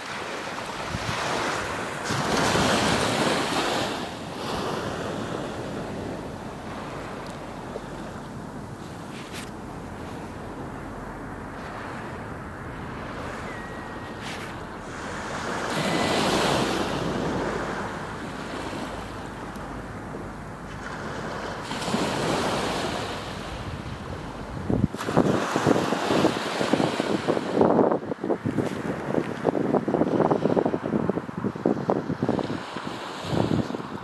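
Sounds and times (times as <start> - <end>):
surf washing onto beach: 0.0 - 27.9
wind on microphone: 0.0 - 34.0.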